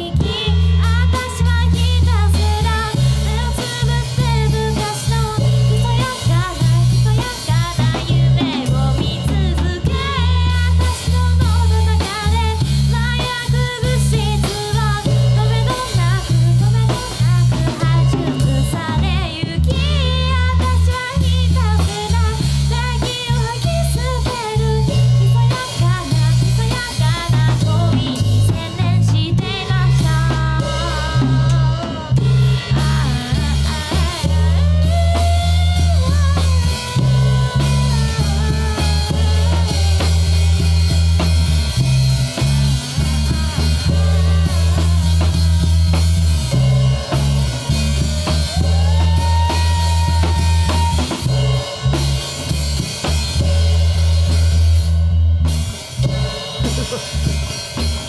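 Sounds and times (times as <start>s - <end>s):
person singing: 0.0s - 41.5s, 42.4s - 52.0s
drum kit with snare hits: 0.0s - 58.0s
electric bass: 0.0s - 58.0s
electric guitar: 0.0s - 58.0s.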